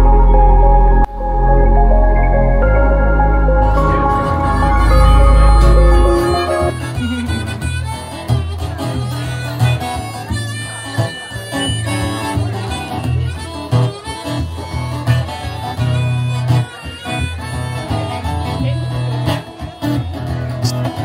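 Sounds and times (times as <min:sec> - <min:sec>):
acoustic guitar: 0:00.0 - 0:21.0
harmonica melody: 0:00.0 - 0:21.0.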